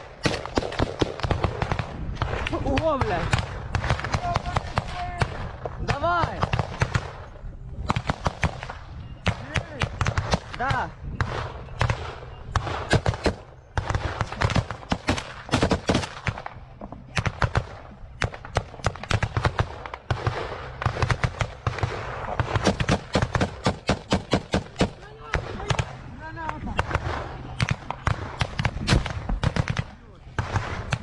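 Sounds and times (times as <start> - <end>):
heavy gunfire: 0.0 - 7.3, 7.9 - 26.1, 26.7 - 31.0.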